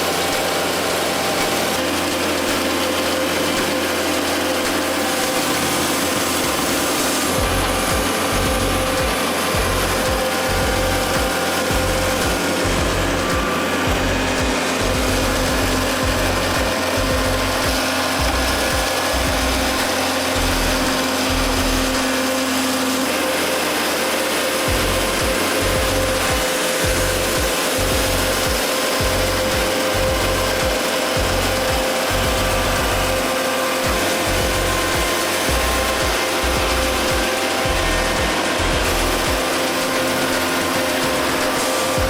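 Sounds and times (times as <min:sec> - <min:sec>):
music with pulsing bass beat: 0:00.0 - 0:42.0
power saw cutting wood: 0:00.0 - 0:42.0.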